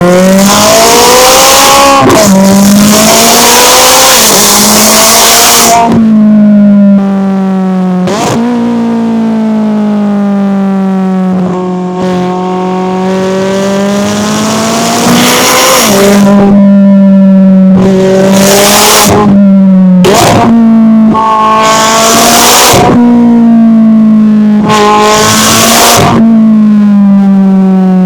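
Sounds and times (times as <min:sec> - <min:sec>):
car exhaust running: 0:00.0 - 0:28.0.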